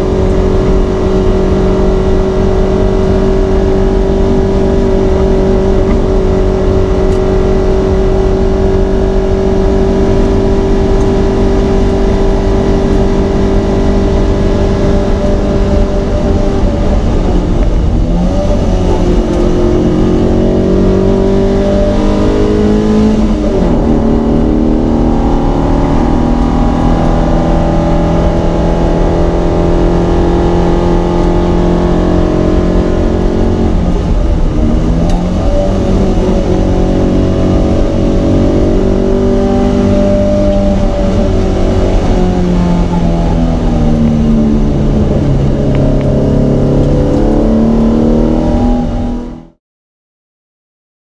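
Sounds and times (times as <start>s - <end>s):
racing car engine accelerating: 0.0s - 49.6s.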